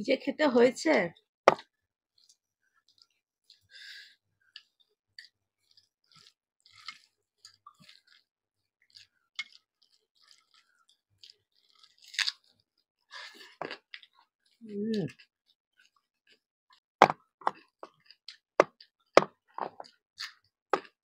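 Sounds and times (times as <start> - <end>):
person chewing food: 1.6 - 21.0.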